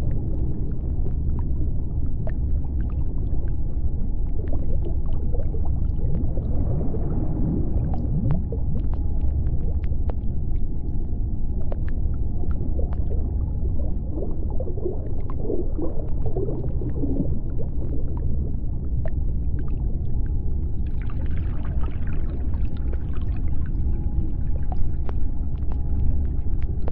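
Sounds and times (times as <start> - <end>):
deep underwater rumble: 0.0 - 26.9
faint steady hum: 0.0 - 26.9.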